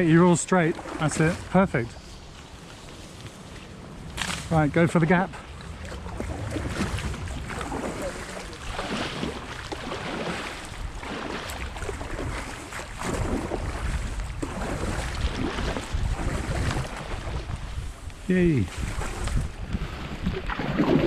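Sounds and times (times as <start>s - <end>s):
paddle splashes: 0.0s - 21.0s
rushing water: 0.0s - 21.0s
wind buffeting microphone: 3.4s - 21.0s.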